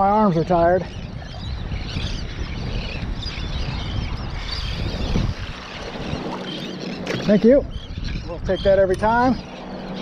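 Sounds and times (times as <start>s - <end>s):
seabirds chirping: 0.0s - 10.0s
wind rumbling on microphone: 0.0s - 10.0s.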